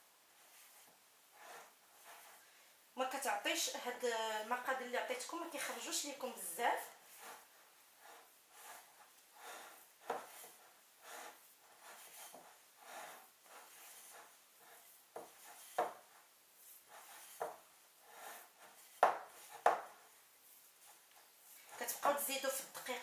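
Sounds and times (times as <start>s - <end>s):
hands rubbing dough: 0.3s - 2.5s, 4.6s - 23.0s.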